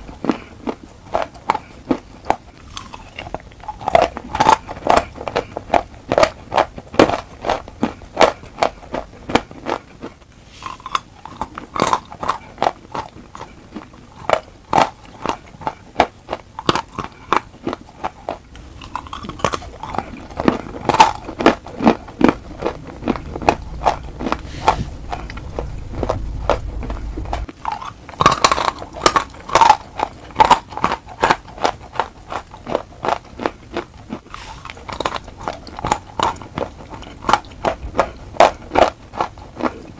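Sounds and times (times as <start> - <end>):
chalk being chewed: 0.0 - 39.9.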